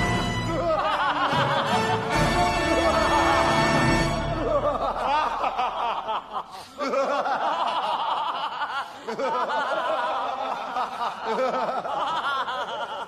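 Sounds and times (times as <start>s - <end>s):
group of people laughing: 0.5s - 13.0s.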